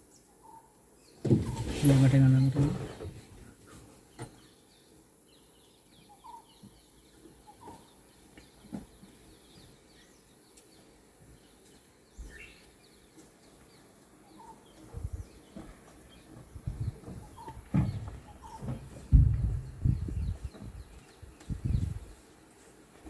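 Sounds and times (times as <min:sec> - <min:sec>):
faint bird chirping: 0:00.0 - 0:22.7.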